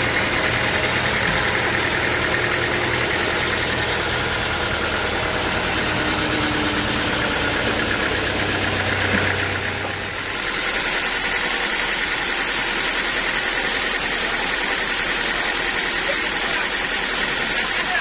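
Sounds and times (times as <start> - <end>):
sawmill engine droning: 0.0 - 18.0.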